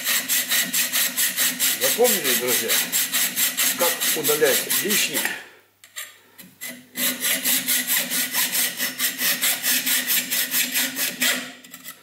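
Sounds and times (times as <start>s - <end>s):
hacksaw cutting metal: 0.0s - 5.4s, 6.6s - 12.0s.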